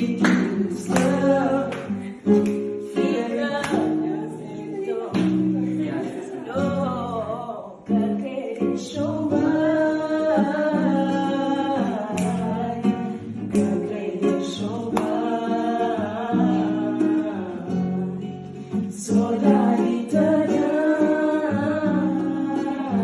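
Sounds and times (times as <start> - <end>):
acoustic guitar plucked: 0.0 - 23.0
person singing: 0.0 - 23.0.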